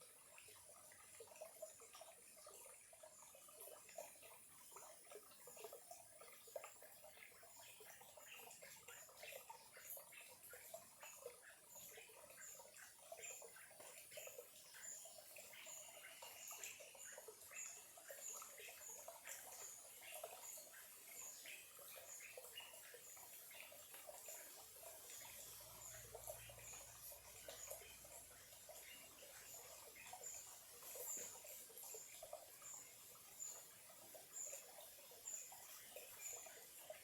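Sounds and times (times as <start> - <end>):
stream trickling over stones: 0.0 - 37.0.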